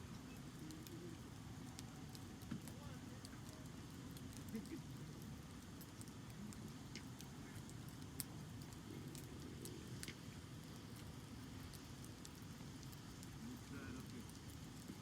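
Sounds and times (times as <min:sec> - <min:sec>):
wood fire crackling: 0:00.0 - 0:15.0
sharp pops from fire: 0:01.8 - 0:15.0.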